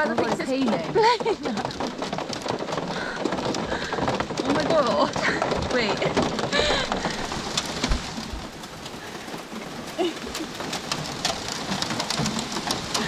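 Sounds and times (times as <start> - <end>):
hail hitting car metal: 0.0 - 13.0
sharp clicks of hailstones: 0.0 - 13.0.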